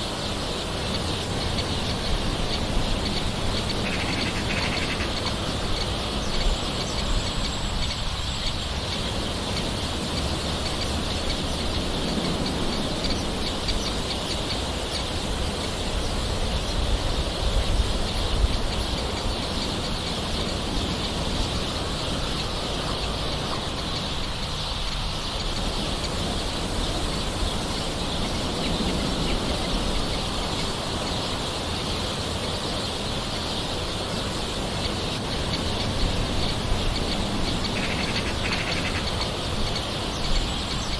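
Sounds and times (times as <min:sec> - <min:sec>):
birds calling: 0:00.0 - 0:40.9
constant high hiss: 0:00.0 - 0:40.9.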